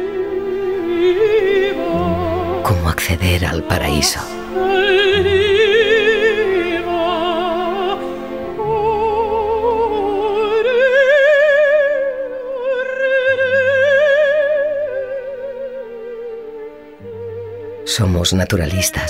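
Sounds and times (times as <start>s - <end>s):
low sustained accompaniment: 0.0s - 19.0s
operatic soprano singing: 0.0s - 19.0s.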